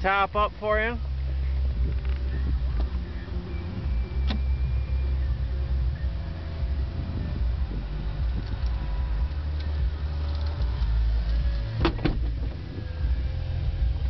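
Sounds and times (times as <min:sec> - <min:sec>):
car roof motor whine: 0:00.0 - 0:14.0.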